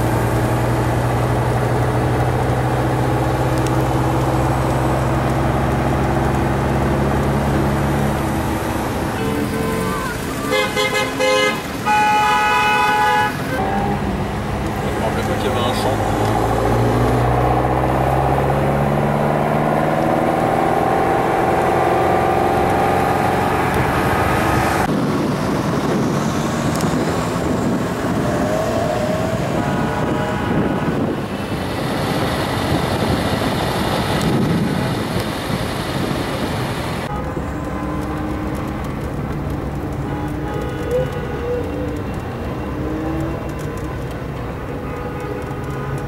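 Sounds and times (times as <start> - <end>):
car engine accelerating: 0.0 - 10.7, 13.6 - 46.0
wind and road noise: 0.0 - 46.0.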